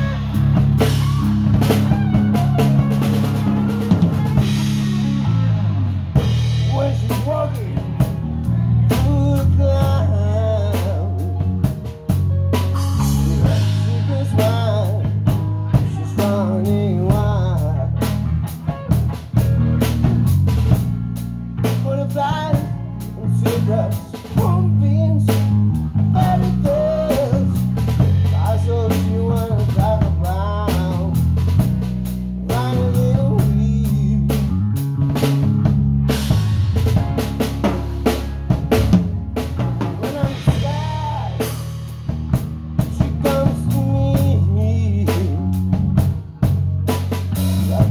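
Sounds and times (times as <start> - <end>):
bass line: 0.0 - 47.9
bending lead melody: 0.0 - 47.9
drum kit beat: 0.0 - 47.9.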